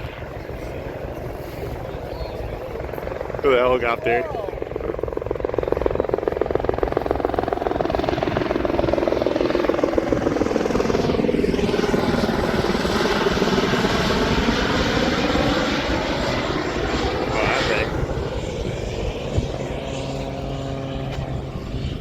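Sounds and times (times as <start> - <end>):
helicopter engine: 0.0 - 22.0
helicopter rotor chopping: 0.0 - 22.0.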